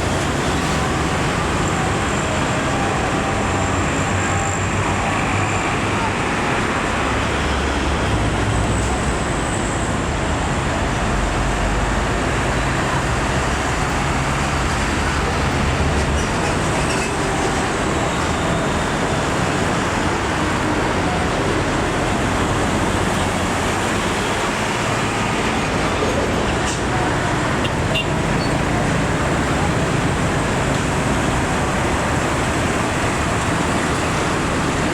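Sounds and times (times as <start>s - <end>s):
diesel truck engine drone: 0.0s - 34.9s.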